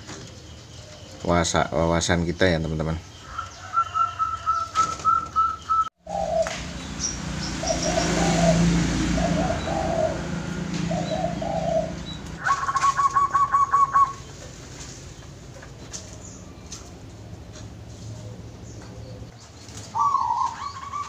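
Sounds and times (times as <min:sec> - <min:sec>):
doves calling high notes: 0:00.0 - 0:21.0
doves cooing: 0:00.0 - 0:21.0.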